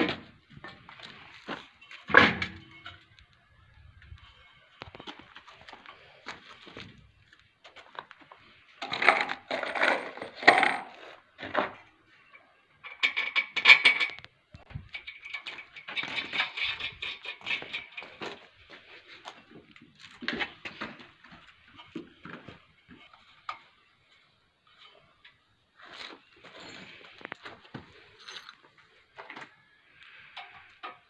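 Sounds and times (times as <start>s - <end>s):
metal clinking and scraping: 0.0s - 3.2s, 7.7s - 29.4s.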